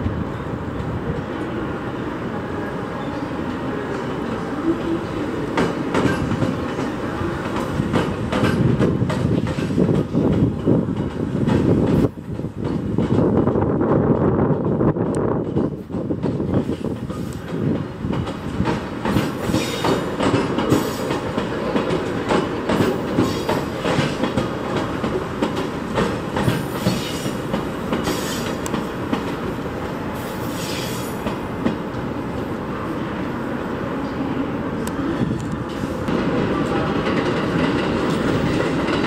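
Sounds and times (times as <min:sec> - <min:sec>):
rumble of moving train cars: 0:00.0 - 0:39.0
train wheels clacking over rail joints: 0:04.0 - 0:32.0, 0:35.4 - 0:39.0.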